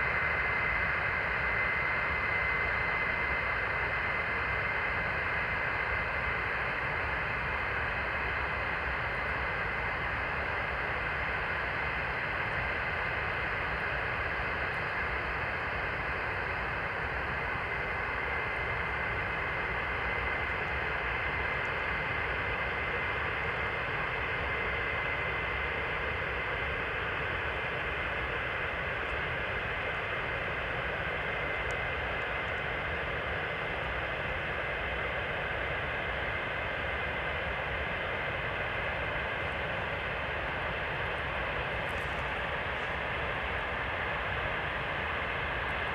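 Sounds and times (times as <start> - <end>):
jet engines whining and roaring: 0.0 - 45.9.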